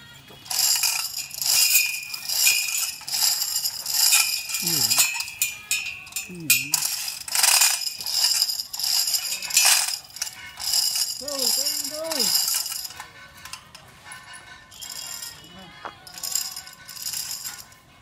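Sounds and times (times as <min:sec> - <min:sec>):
ratchet clicking: 0:00.5 - 0:13.7, 0:16.0 - 0:17.7
chain rattling through hoist block: 0:00.5 - 0:17.8.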